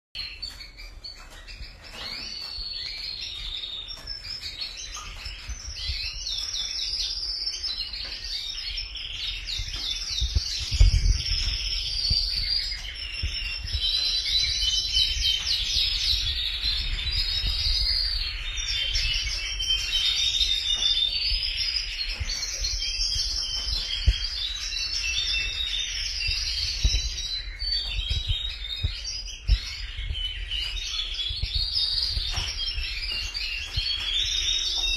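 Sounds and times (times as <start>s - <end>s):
canaries singing trills: 0.2s - 34.9s.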